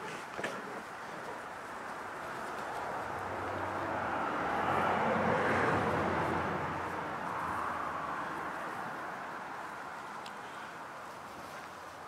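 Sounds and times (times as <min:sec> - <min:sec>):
vehicle passing by: 0:01.2 - 0:11.6.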